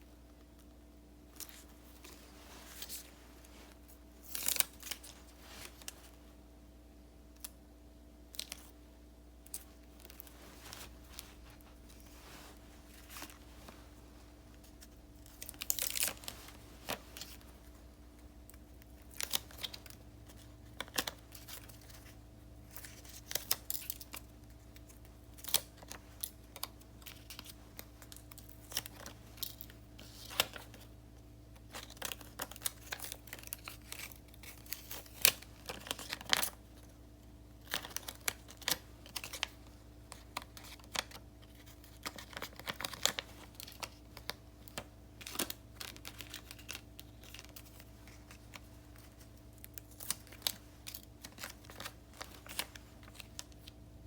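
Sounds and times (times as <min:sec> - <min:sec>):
faint steady hum: 0:00.0 - 0:54.0
paper rustling and crinkling: 0:01.3 - 0:06.2, 0:09.5 - 0:53.8.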